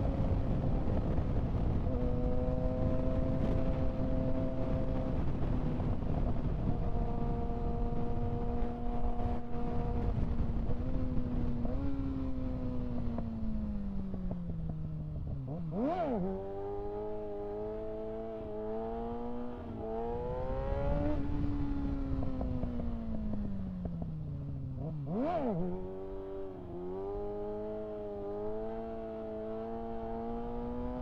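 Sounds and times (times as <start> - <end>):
motorcycle engine: 0.0 - 31.0.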